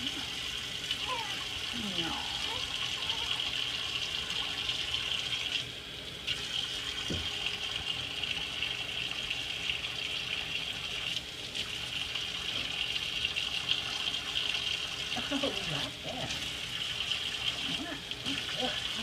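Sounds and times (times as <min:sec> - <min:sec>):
tap water running into metal sink: 0:00.0 - 0:19.0.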